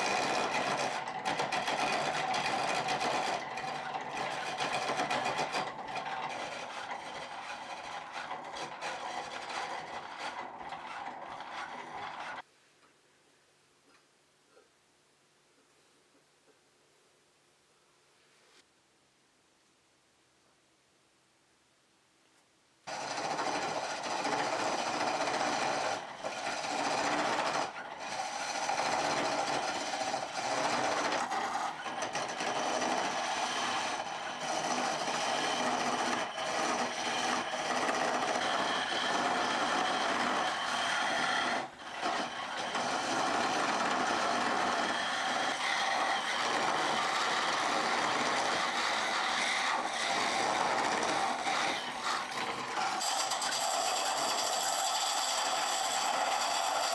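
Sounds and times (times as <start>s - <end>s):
lathe tool cutting wood: 0.0s - 12.4s, 22.9s - 56.9s.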